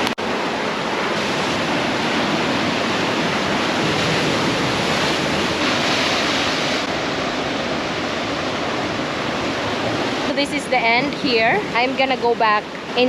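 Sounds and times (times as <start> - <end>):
surf breaking against rocks: 1.1 - 12.0.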